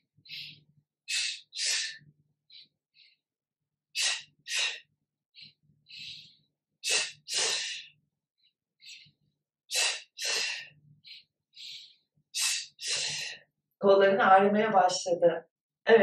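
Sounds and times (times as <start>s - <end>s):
woman breathing forcefully: 0.0s - 3.3s, 3.9s - 13.5s.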